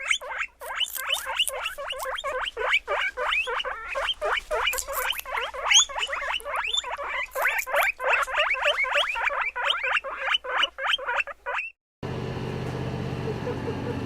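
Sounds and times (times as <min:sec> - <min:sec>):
piglets squealing: 0:00.0 - 0:11.8.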